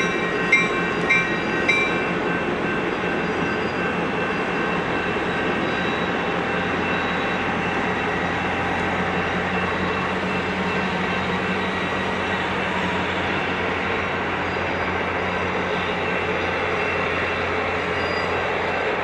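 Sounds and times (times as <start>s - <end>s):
diesel locomotive engine drone: 0.0s - 19.0s
train rolling on rails: 0.0s - 19.0s.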